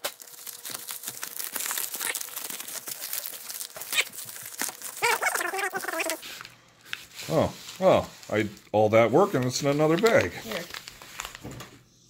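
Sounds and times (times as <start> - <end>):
plastic mailer crinkling and tearing: 0.0 - 11.7.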